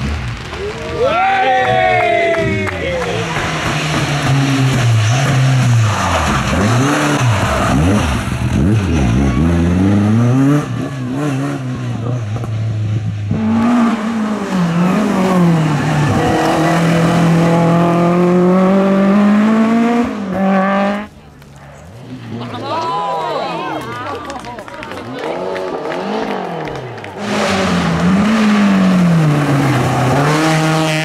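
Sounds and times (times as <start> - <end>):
rally car engines revving: 1.5 - 23.1, 24.8 - 31.0.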